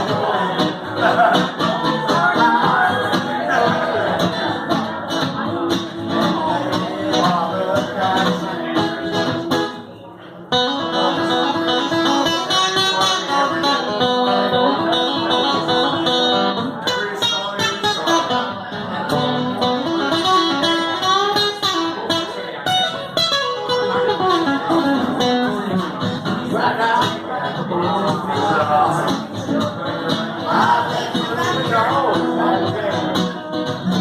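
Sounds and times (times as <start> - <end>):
country guitar playing: 0.0 - 34.0.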